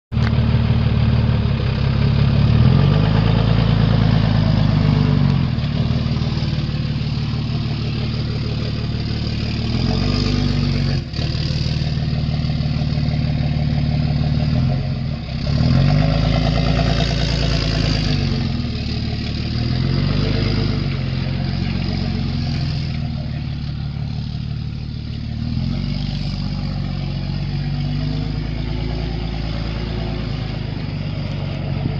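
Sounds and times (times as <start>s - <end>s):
diesel engine idling and revving: 0.1s - 31.9s.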